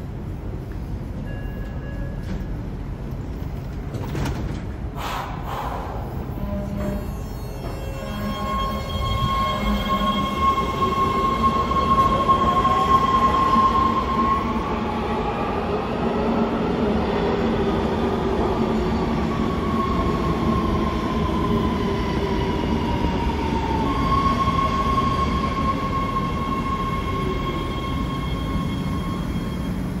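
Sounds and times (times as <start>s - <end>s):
subway train rumble: 0.0s - 30.0s
train whine gliding in pitch: 5.7s - 30.0s.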